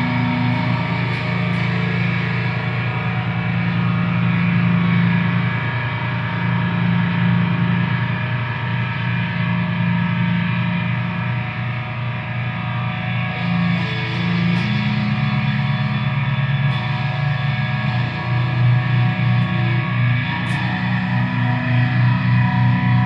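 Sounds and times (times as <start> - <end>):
distorted electric guitar drone: 0.0 - 23.0.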